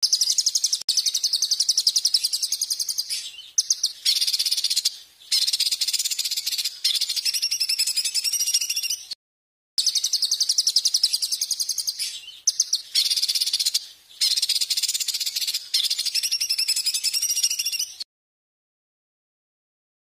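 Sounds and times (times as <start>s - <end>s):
songbird trilling: 0.0s - 9.2s, 9.8s - 18.0s.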